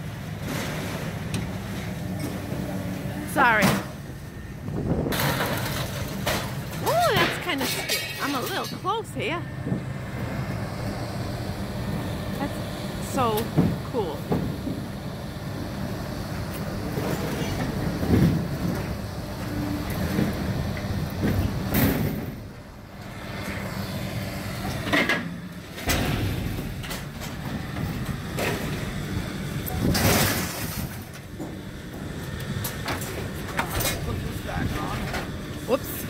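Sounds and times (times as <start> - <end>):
heavy machine engine running: 0.0 - 36.0.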